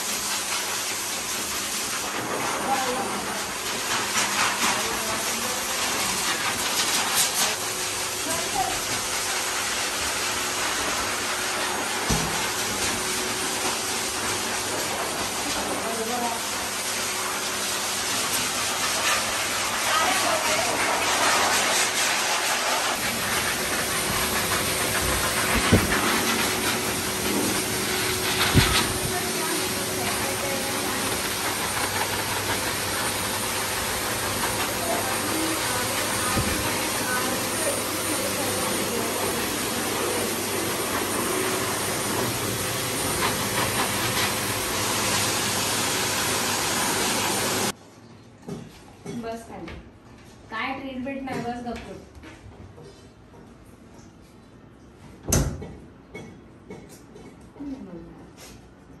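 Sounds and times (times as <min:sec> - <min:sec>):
pet dryer blowing hiss: 0:00.0 - 0:47.8.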